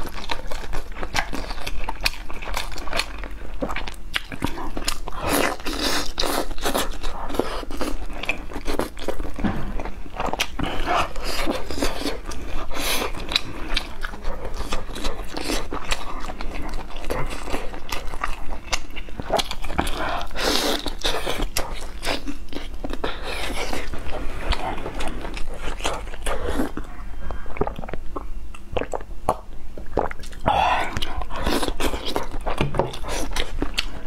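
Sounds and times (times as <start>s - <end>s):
chewing meat with mouth clicks: 0.0s - 34.0s.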